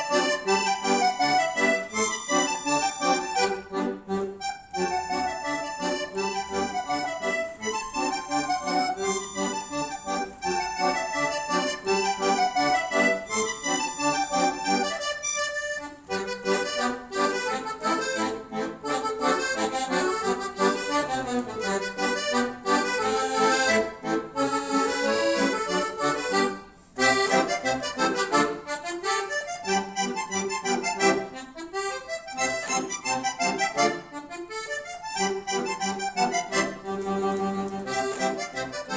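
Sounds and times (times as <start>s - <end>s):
two accordions playing lively tune: 0.0s - 38.9s.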